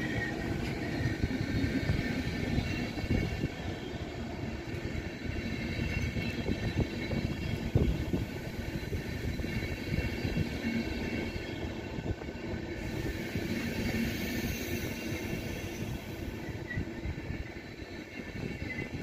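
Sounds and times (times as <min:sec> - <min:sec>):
train coaches rumbling: 0:00.0 - 0:19.0.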